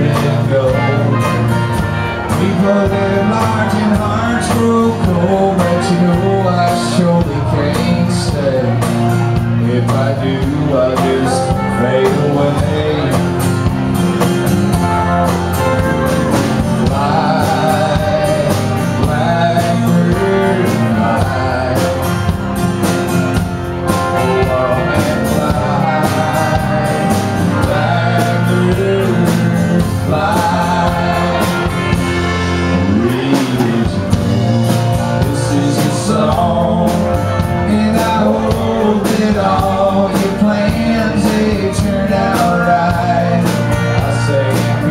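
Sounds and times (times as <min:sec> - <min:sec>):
acoustic guitar: 0:00.0 - 0:44.9
drums: 0:00.0 - 0:44.9
electric bass: 0:00.0 - 0:44.9
electric guitar: 0:00.0 - 0:44.9
man singing: 0:00.0 - 0:44.9.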